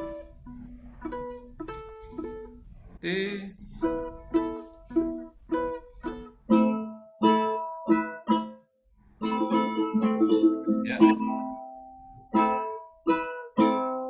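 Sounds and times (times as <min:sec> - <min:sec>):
ukulele plucked notes: 0:00.0 - 0:02.9, 0:03.6 - 0:14.0.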